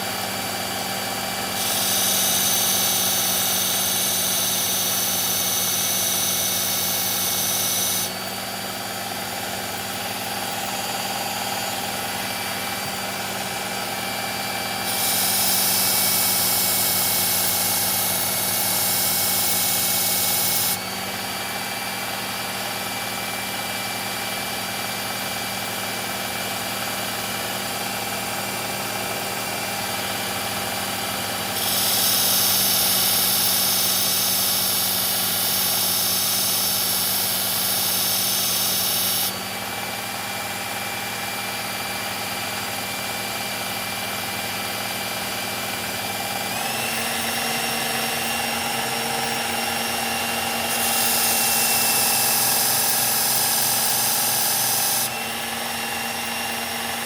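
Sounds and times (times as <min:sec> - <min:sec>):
blade grinding on belt: 0:00.0 - 0:21.9, 0:28.8 - 0:57.0
belt sharpener motor hum: 0:00.0 - 0:57.0.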